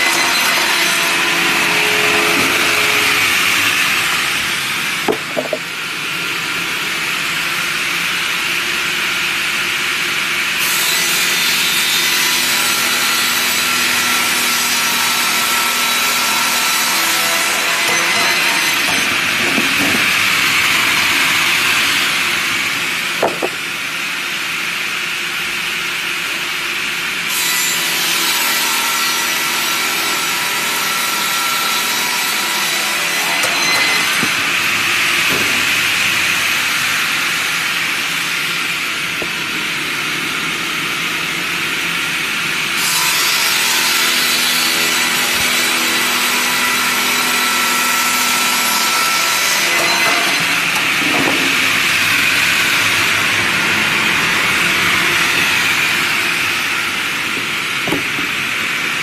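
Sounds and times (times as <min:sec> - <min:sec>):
sawmill blade cutting log: 0:00.0 - 0:05.8, 0:10.6 - 0:24.0, 0:27.3 - 0:40.0, 0:42.8 - 0:59.0.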